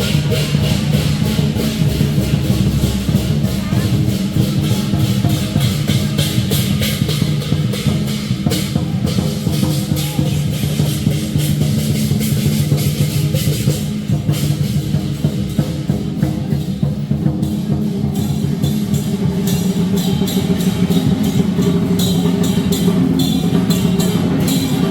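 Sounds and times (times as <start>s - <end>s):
cymbals clashing: 0.0s - 24.9s
gong: 0.0s - 24.9s
large drum beaten fast: 0.0s - 24.9s.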